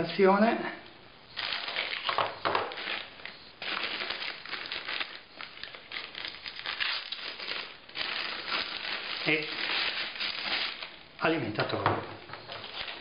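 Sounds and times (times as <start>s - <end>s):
plastic wrapping crinkling: 1.3s - 13.0s.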